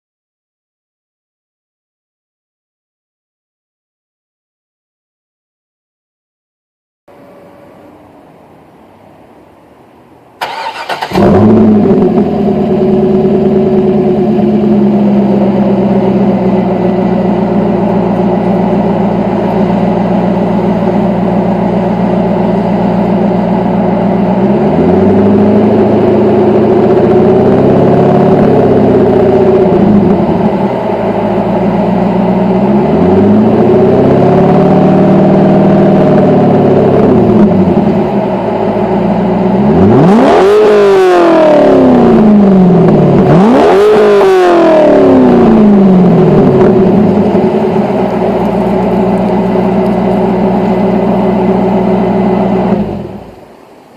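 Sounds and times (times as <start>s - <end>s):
car engine idling and revving: 7.1s - 53.9s.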